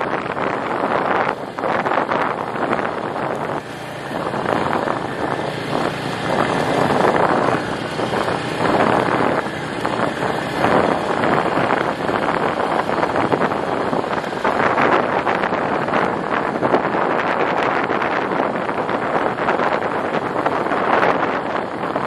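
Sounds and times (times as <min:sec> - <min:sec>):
small vehicle engine running: 0:00.0 - 0:22.0
wind buffeting microphone: 0:00.0 - 0:22.0.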